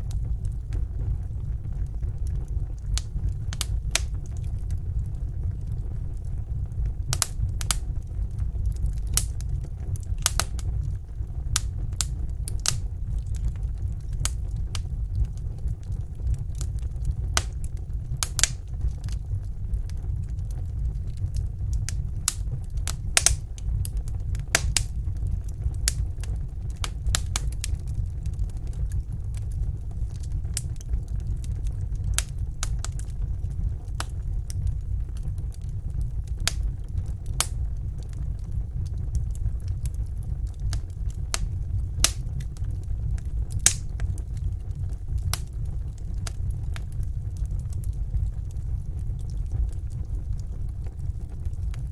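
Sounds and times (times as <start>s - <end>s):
fire low rumble: 0.0s - 51.9s
wood fire crackling and popping: 0.0s - 51.9s.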